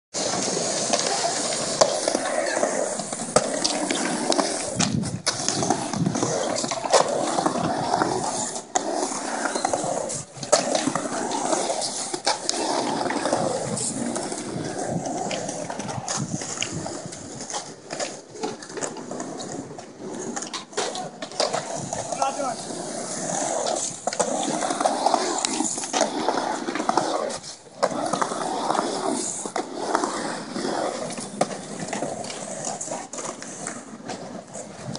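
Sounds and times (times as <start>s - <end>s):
skateboard wheels rolling on concrete: 0.1s - 34.9s
skateboard clacks: 0.2s - 34.9s.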